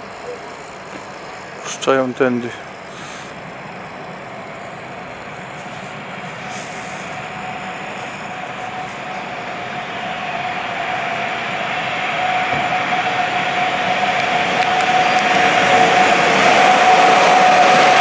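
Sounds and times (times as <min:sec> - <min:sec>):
electric train running noise: 0:00.0 - 0:18.0.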